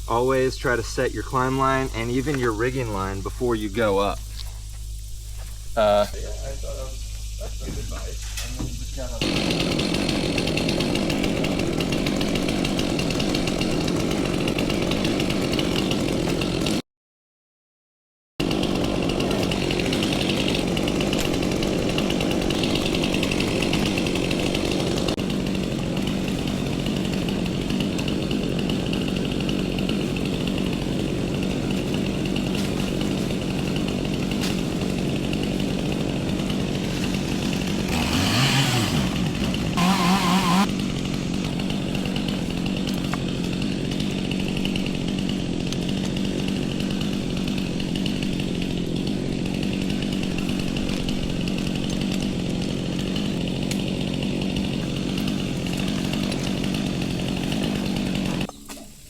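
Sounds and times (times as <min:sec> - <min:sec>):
chainsaw running at high revs: 0:00.0 - 0:04.8, 0:09.0 - 0:16.8, 0:18.4 - 0:58.5.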